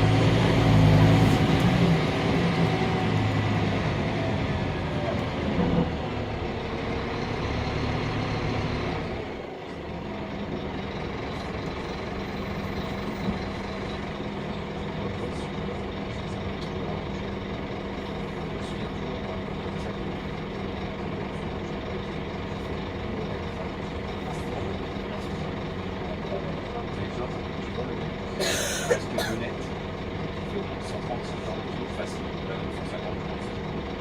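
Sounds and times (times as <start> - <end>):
bus engine low drone: 0.0 - 34.0.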